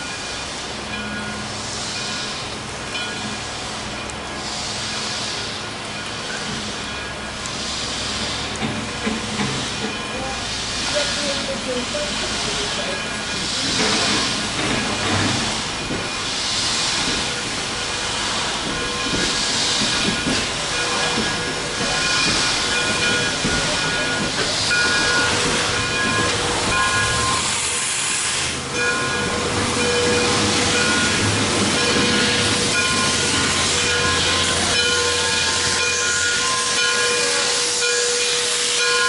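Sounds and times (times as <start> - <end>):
steady steam hiss: 0.0 - 39.0
whistling escaping steam: 0.0 - 39.0.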